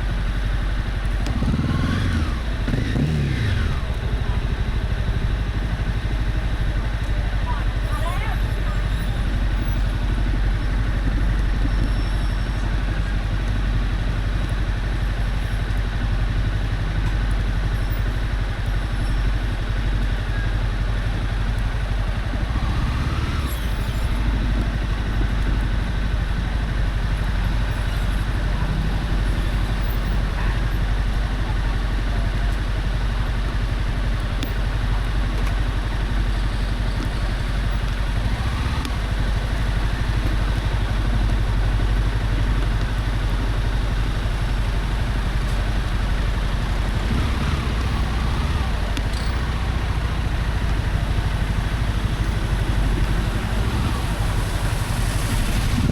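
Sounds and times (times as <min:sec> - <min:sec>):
motorcycle engine running: 0:00.0 - 0:55.9
road and wind noise: 0:00.0 - 0:55.9.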